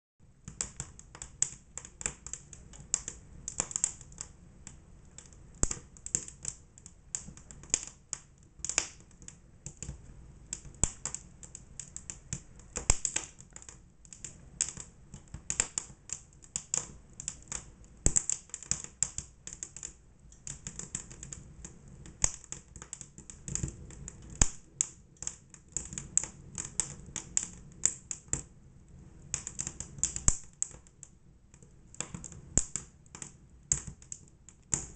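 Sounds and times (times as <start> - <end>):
fire crackling: 0.3 - 34.9.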